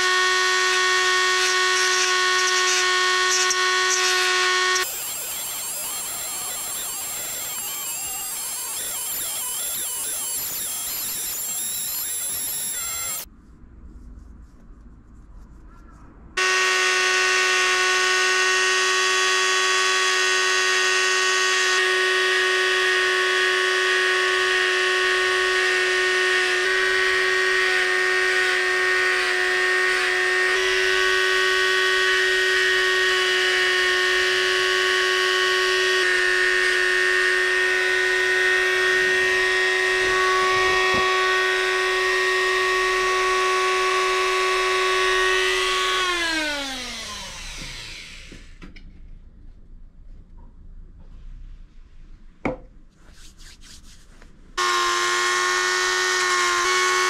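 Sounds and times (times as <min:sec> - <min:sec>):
rotary tool cutting wood: 0:00.0 - 0:13.3, 0:16.4 - 0:48.6, 0:54.6 - 0:57.0.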